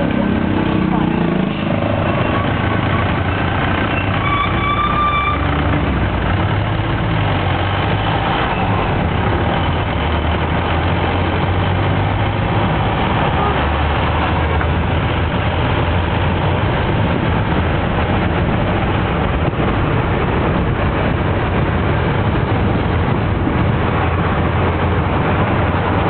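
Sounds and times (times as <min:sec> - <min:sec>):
road and traffic noise: 0:00.0 - 0:26.0
vehicle engine droning: 0:00.0 - 0:26.0.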